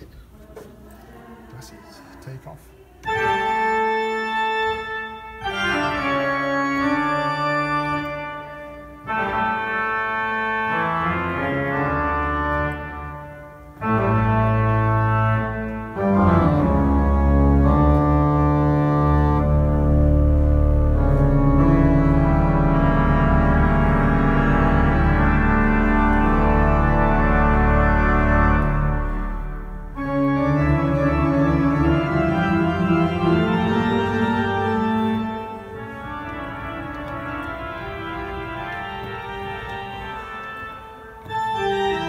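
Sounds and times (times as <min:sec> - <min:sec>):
pipe organ chords: 0:03.0 - 0:42.0.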